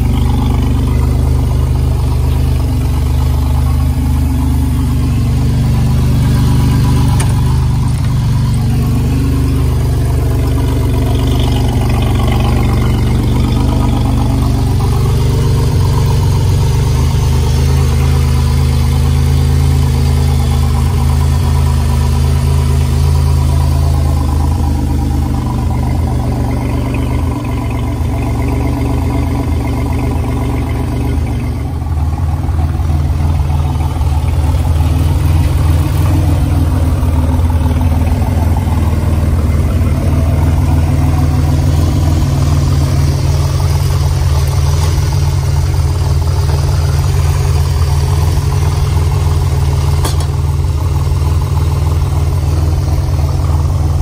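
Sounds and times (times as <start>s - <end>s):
supercharged engine idling: 0.0s - 54.0s.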